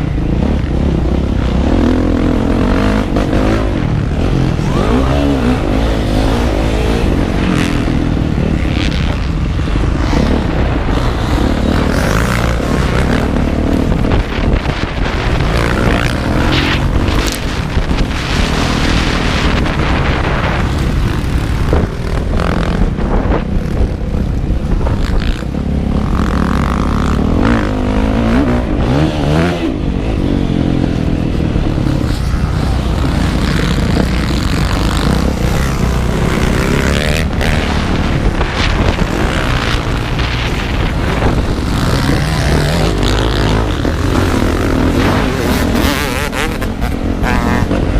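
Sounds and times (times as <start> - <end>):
motocross bike engine revving: 0.0 - 47.9
steady rushing noise: 0.0 - 47.9.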